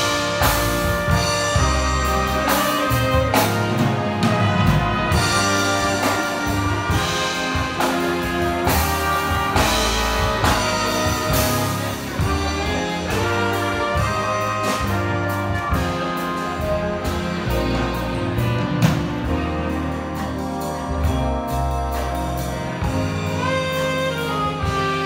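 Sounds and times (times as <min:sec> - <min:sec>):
big band playing: 0:00.0 - 0:25.0.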